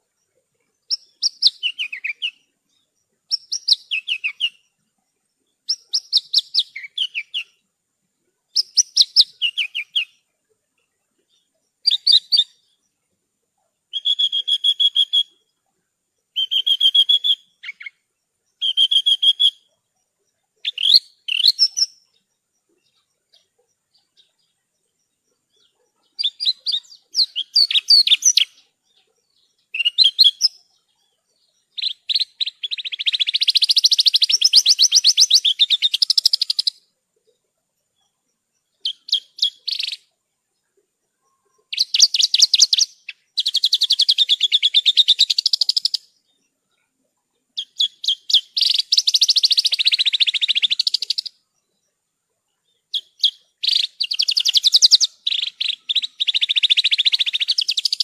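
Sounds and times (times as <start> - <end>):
bush lark trilling song: 0.0 - 58.0.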